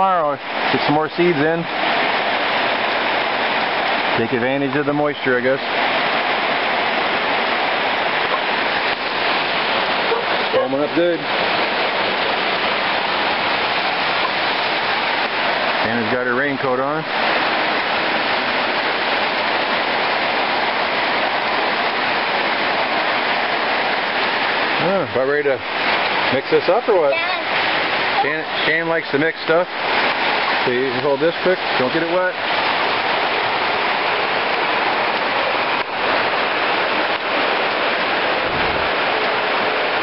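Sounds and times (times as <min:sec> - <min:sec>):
rain falling on a yard: 0:00.0 - 0:40.0.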